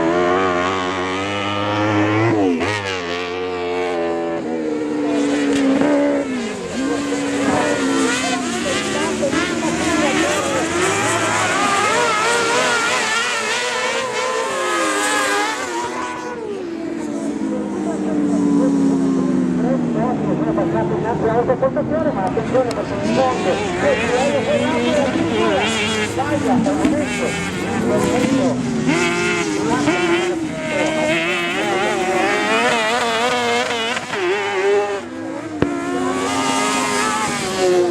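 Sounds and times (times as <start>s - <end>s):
kart engines revving: 0.0s - 37.9s.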